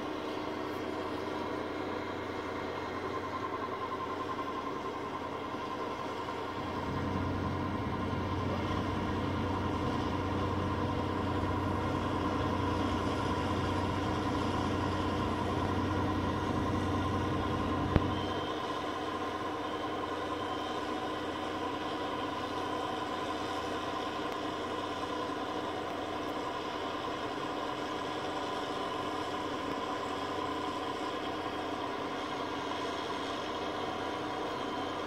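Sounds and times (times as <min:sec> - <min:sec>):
combine harvester engine drone: 0:00.0 - 0:35.0
high steady whine: 0:00.0 - 0:35.0.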